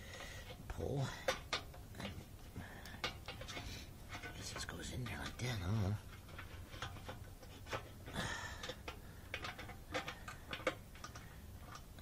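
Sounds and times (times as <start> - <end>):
plastic and metal clicks and knocks: 0.1 - 12.0.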